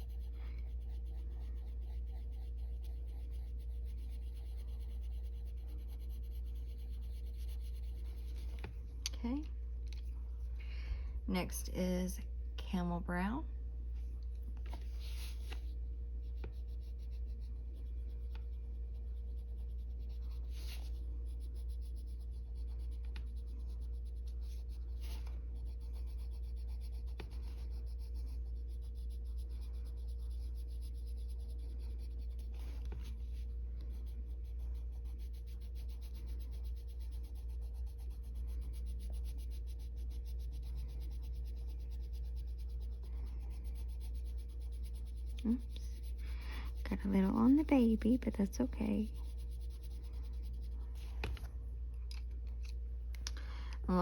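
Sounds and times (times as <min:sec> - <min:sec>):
pencil scratching on paper: 0:00.0 - 0:08.8, 0:14.7 - 0:51.5
steady low hum: 0:00.0 - 0:54.0.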